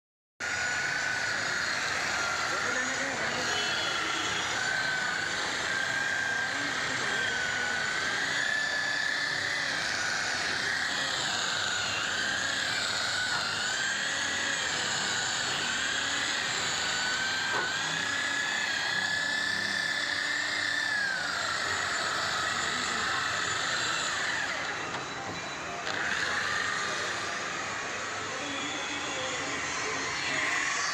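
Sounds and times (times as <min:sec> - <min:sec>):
electric polisher motor whine: 0:00.4 - 0:30.9.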